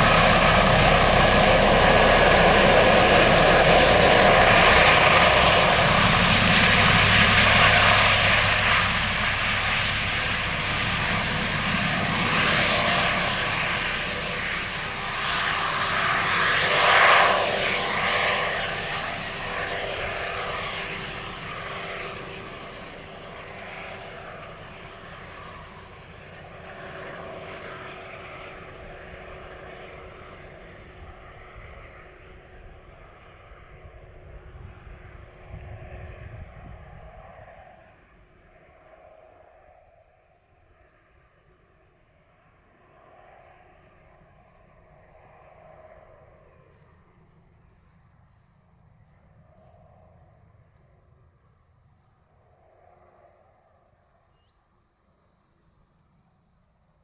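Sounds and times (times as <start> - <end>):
helicopter flying away: 0.0 - 54.2.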